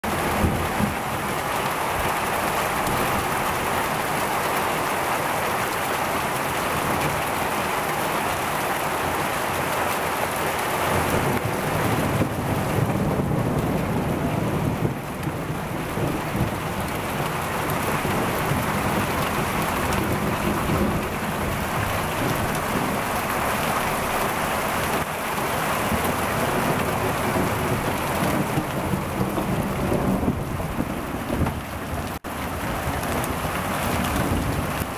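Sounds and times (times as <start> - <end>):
torrential rain and hail: 0.0 - 34.9.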